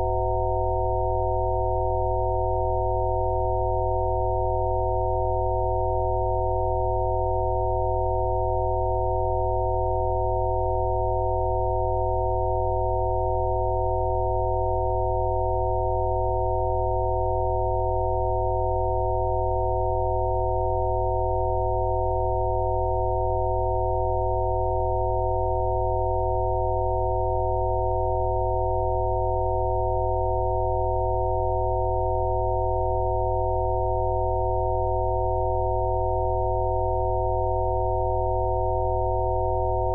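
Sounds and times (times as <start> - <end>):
steady sine tones: 0.0 - 39.9.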